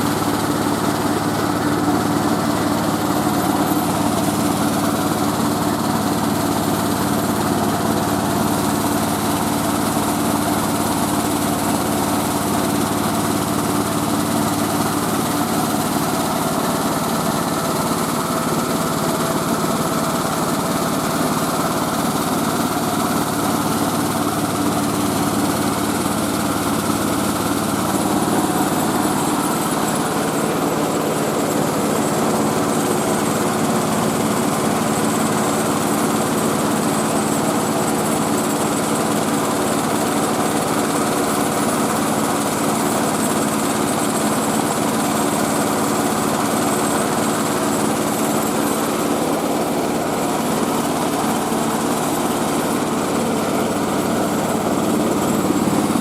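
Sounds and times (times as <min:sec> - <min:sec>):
rice mill engine running: 0:00.0 - 0:56.0.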